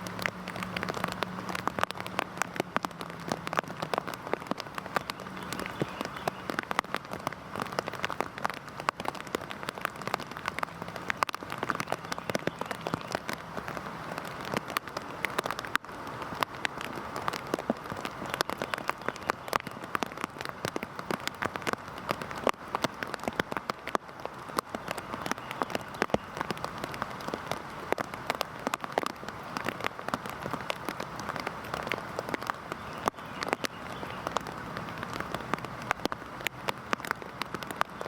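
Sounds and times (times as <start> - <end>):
heavy rain hissing: 0.0 - 38.0
raindrops ticking: 0.0 - 38.0.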